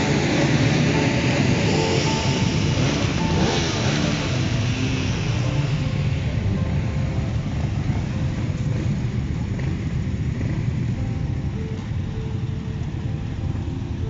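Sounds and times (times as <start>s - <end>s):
motorcycle engines idling: 0.0s - 14.0s.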